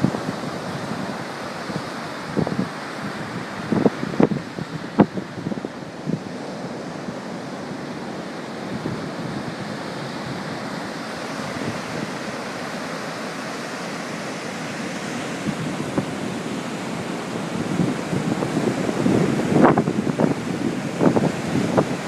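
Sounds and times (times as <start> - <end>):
heavy surf breaking: 0.0 - 22.0
wind buffeting microphone: 0.0 - 22.0.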